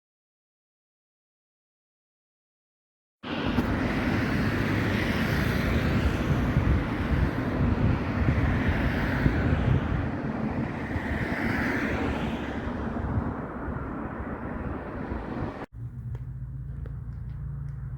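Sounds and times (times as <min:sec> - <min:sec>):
wind buffeting microphone: 0:03.3 - 0:17.9.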